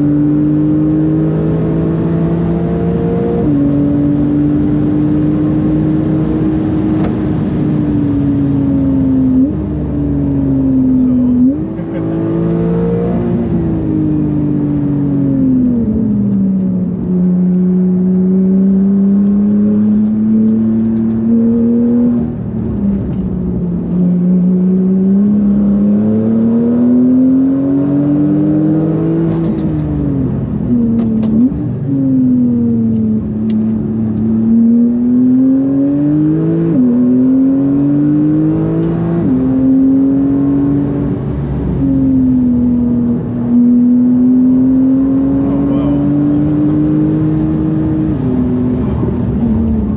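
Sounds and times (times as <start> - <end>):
sports car engine accelerating: 0.0 - 49.9.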